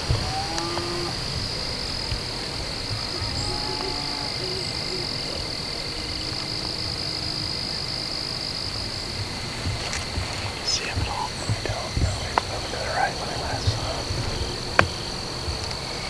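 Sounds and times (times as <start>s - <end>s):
low outdoor rumble: 0.0s - 16.0s
high-pitched insect buzz: 0.1s - 16.0s.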